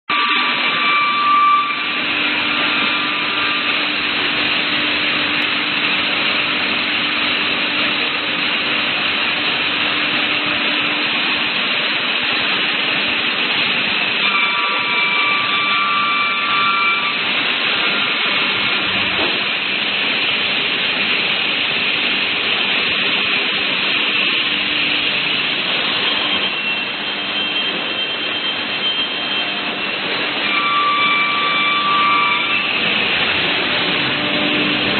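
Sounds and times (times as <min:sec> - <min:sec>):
high machine whine: 0:00.1 - 0:34.9.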